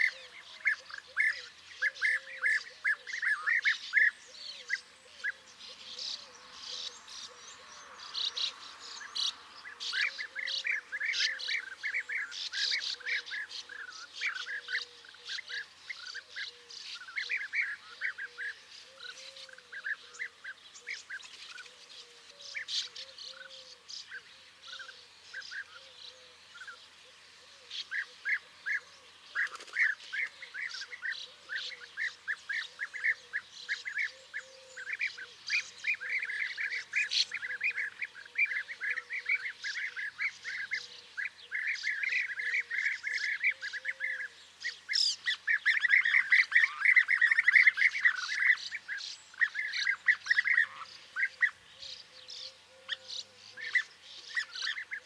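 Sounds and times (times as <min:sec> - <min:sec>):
birds calling: 0:00.0 - 0:55.0.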